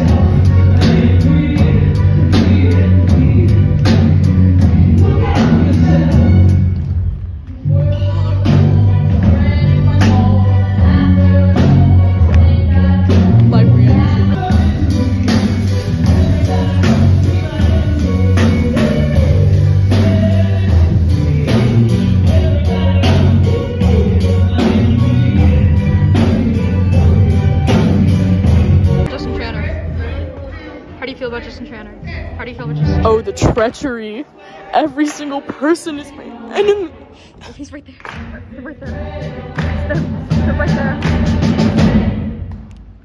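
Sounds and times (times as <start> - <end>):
live band music: 0.0 - 30.4, 31.1 - 43.0.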